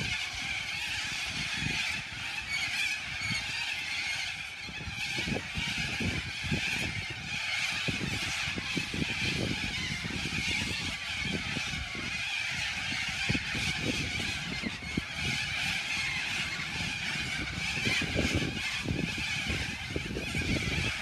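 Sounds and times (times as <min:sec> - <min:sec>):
flock of birds screeching: 0:00.0 - 0:21.0.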